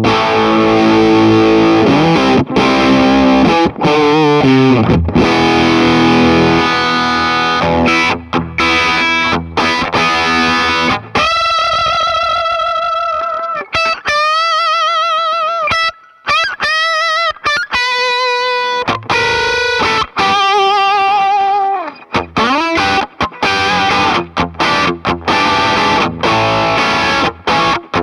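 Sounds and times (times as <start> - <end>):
overdriven electric guitar: 0.0 - 28.0.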